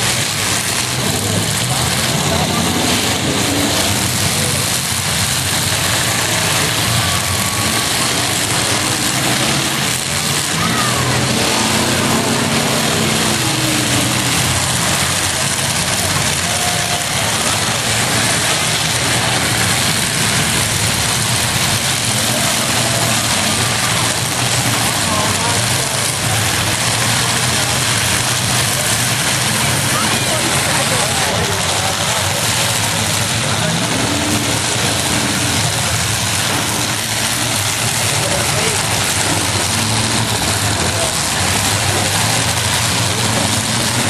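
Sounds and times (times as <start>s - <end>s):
truck engines revving: 0.0s - 44.0s.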